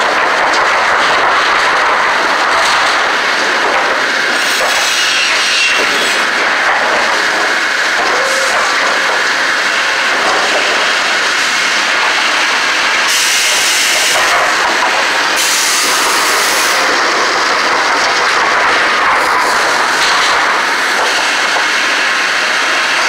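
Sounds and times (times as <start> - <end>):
constant mechanical hiss: 0.1 - 23.0.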